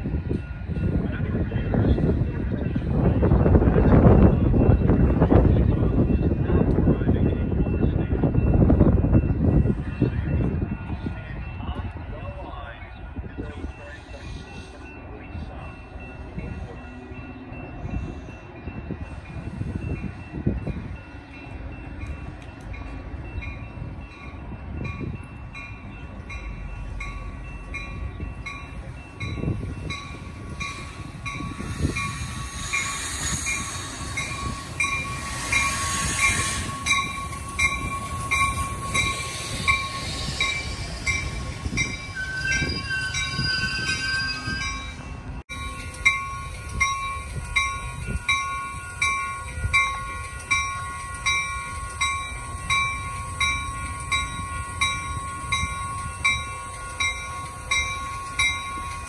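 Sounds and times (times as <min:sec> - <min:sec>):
wind on microphone: 0:00.0 - 0:12.3, 0:17.7 - 0:21.2, 0:23.2 - 0:25.9, 0:27.0 - 0:59.0
crossing bell dinging: 0:00.0 - 0:59.0
train rolling past: 0:00.0 - 0:59.0.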